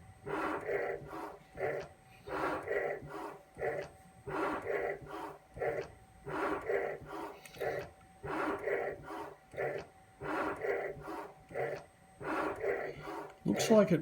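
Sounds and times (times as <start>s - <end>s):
mill cutter moving back and forth: 0.0s - 14.0s.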